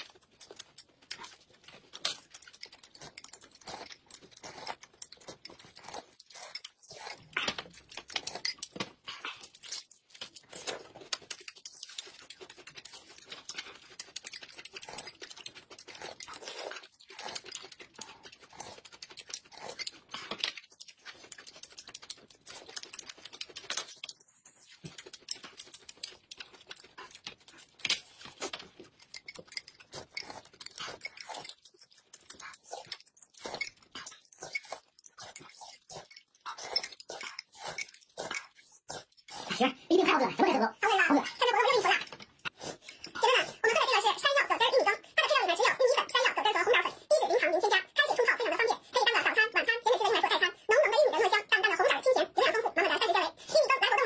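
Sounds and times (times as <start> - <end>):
chewing and lip smacking: 0.0 - 54.0.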